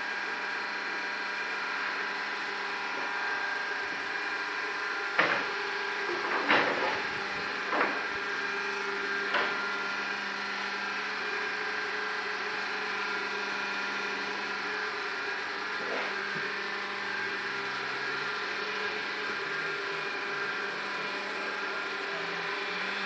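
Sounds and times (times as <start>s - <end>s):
machine motor humming: 1.9s - 23.0s.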